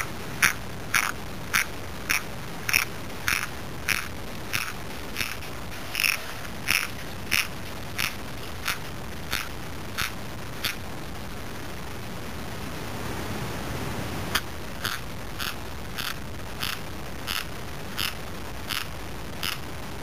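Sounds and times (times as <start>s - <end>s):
kitten crunching kibble: 0.0s - 10.8s, 14.4s - 19.6s.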